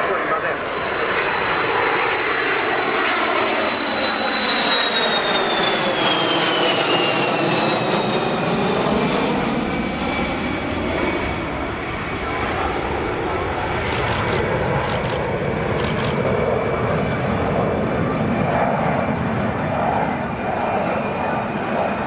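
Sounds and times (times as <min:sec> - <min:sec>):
jet aircraft flying past: 0:00.0 - 0:22.0.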